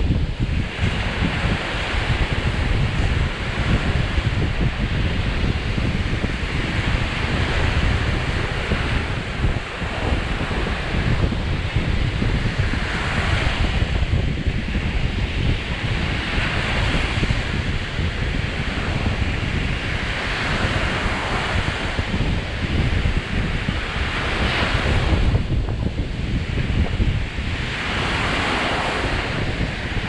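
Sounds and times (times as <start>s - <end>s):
surf breaking on shore: 0.0s - 30.0s
wind buffeting microphone: 0.0s - 30.0s.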